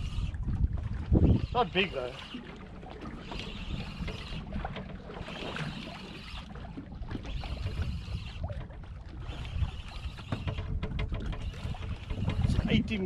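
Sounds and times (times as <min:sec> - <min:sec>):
water lapping against boat hull: 0:00.0 - 0:13.0
wind buffeting microphone: 0:00.0 - 0:13.0.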